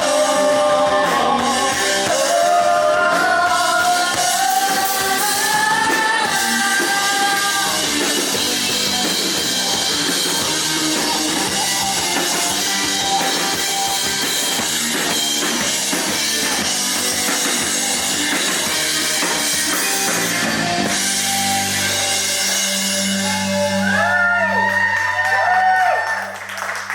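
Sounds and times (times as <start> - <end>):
drums and cymbals: 0.0 - 24.0
electric guitars: 0.0 - 26.9
rock band playing loudly: 0.0 - 26.9.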